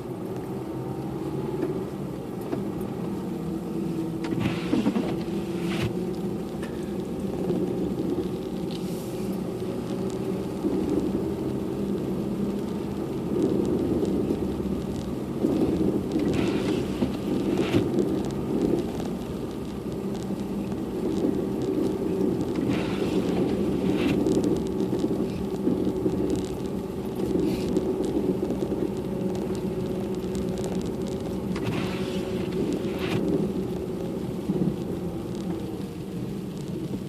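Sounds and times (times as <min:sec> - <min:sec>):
car engine hum: 0:00.0 - 0:37.0
tyre and road noise: 0:00.0 - 0:37.0.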